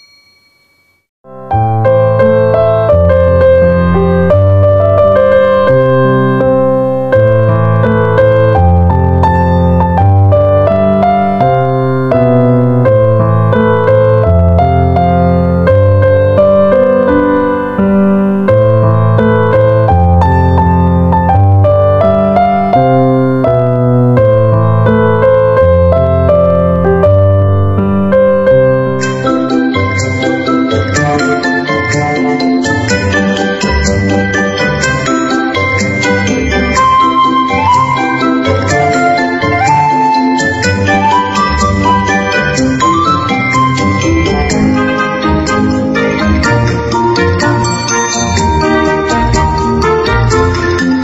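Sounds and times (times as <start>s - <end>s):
piano music: 1.0s - 51.0s.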